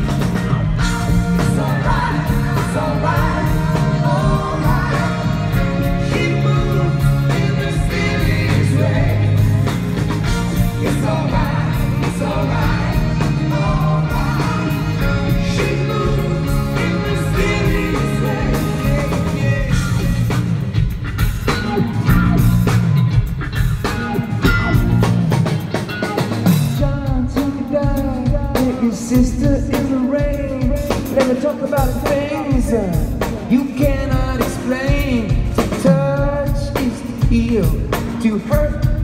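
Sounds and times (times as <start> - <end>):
man singing lead vocal: 0.0 - 20.5, 26.6 - 39.0
live rock band playing: 0.0 - 39.0.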